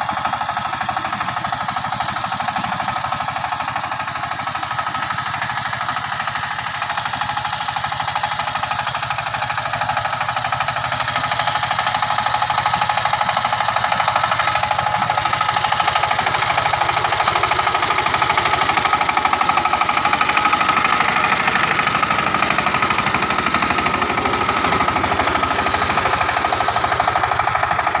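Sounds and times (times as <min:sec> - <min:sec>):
power tiller engine running: 0:00.0 - 0:28.0.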